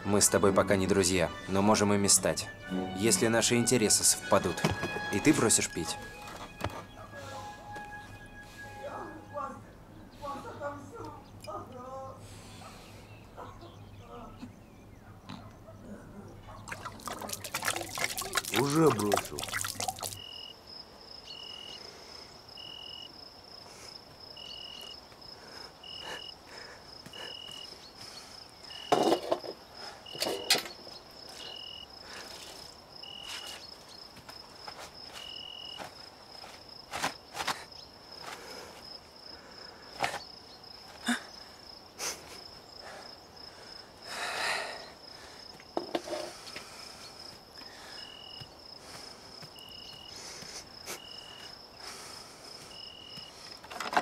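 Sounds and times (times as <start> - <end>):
crickets chirping: 3.6 - 54.0.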